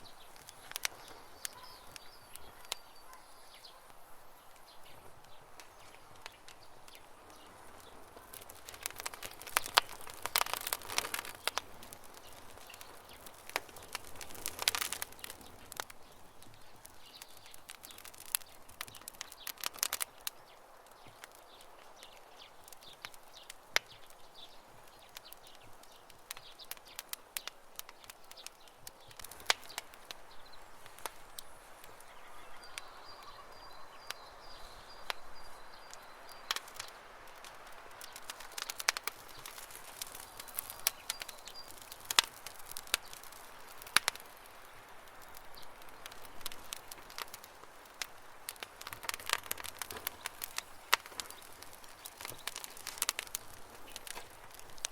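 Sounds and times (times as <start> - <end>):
faint bird chirping: 0.0 - 54.8
campfire crackling: 0.0 - 54.9.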